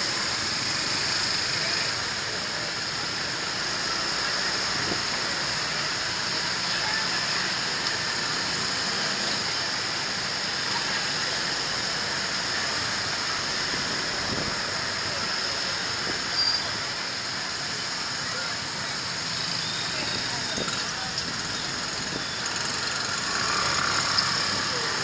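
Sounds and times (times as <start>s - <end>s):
scooter engine and tyre noise: 0.0s - 25.0s
town traffic noise: 0.0s - 25.0s.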